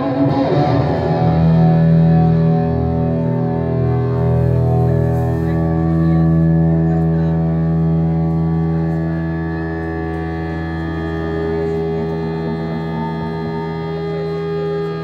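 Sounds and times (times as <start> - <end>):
live rock chord drone: 0.0 - 15.0.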